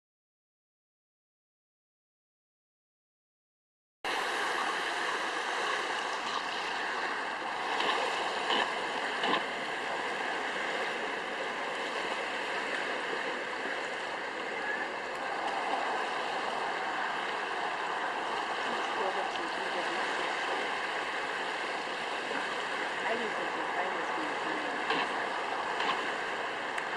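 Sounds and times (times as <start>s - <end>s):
water rushing: 4.1s - 26.9s.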